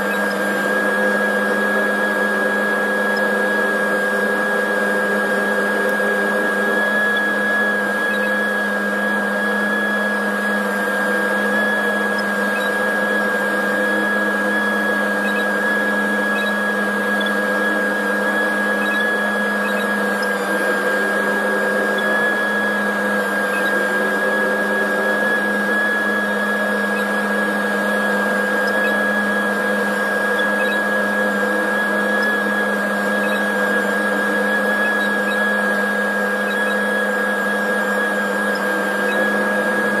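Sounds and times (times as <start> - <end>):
steady high whine: 0.0 - 40.0.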